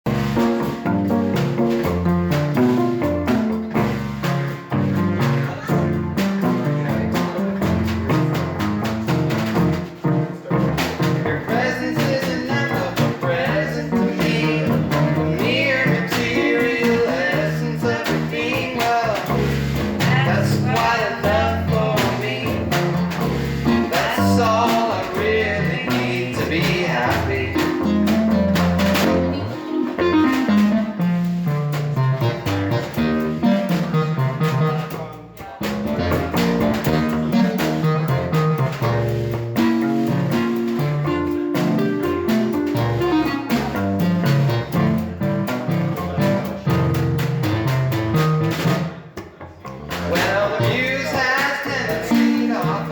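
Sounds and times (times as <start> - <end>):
guitar: 0.1 - 52.9
live band playing: 0.1 - 52.9.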